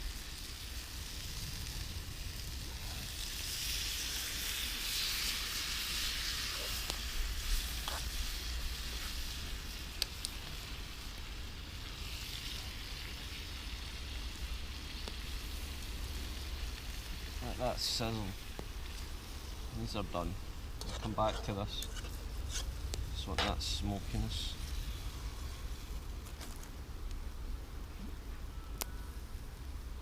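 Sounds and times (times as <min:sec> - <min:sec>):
steak sizzling on coals: 0:00.0 - 0:30.0.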